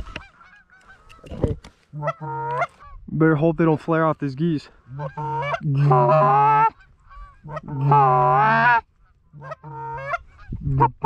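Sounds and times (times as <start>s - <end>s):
goose honking: 0.0s - 3.0s, 4.6s - 11.0s.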